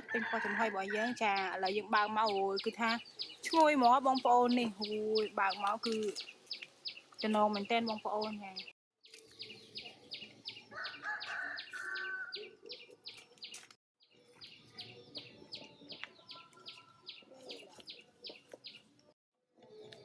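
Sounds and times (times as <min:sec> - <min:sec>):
bird chirping: 0:01.3 - 0:20.0.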